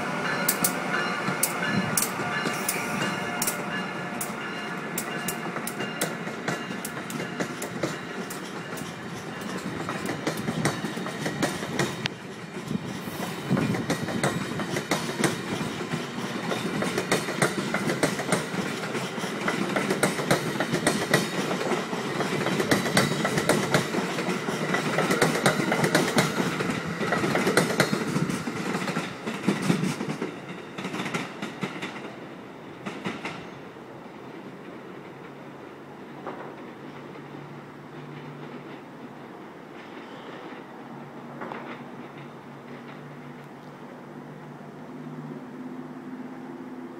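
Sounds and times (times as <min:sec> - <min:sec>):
train rumble: 0:00.0 - 0:46.9
train wheels clicking over rail joints: 0:00.1 - 0:32.2, 0:32.8 - 0:33.5, 0:36.1 - 0:40.6, 0:41.2 - 0:43.8.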